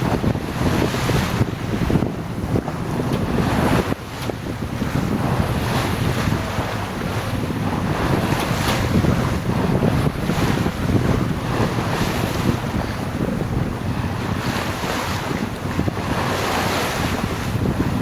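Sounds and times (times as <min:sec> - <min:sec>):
rush of sea water: 0:00.0 - 0:18.0
wind buffeting microphone: 0:00.0 - 0:18.0.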